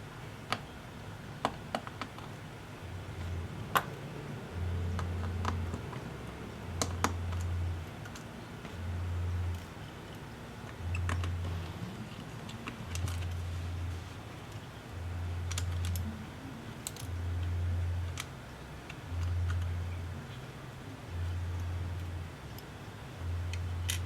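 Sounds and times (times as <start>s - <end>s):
low hum switching on and off: 2.9s - 24.0s.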